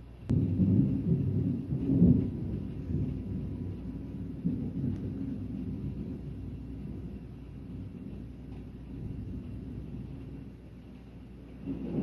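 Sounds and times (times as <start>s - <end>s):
rolling thunder: 0.3s - 12.0s.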